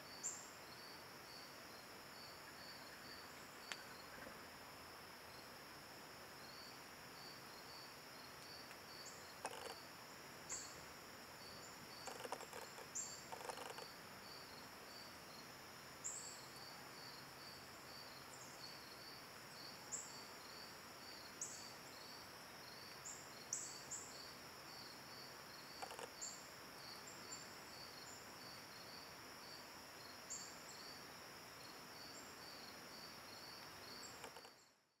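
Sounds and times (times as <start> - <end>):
pulsing insect chirp: 0.1 - 34.8.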